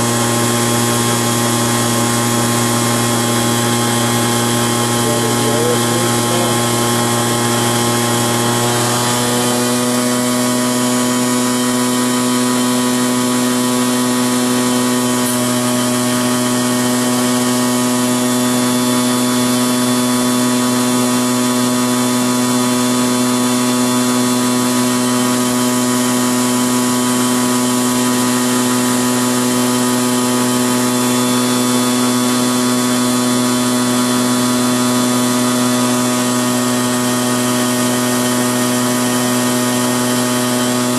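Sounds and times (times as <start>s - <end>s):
electric motor whine: 0.0s - 40.9s.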